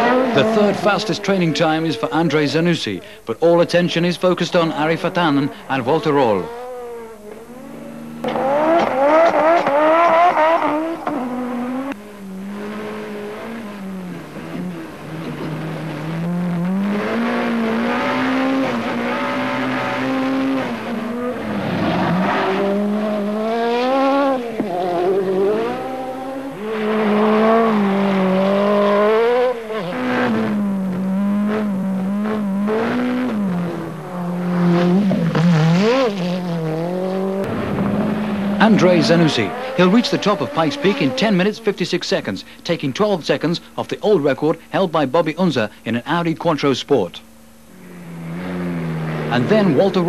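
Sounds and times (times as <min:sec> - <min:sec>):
rally car engine shifting gears: 0:00.0 - 0:50.0.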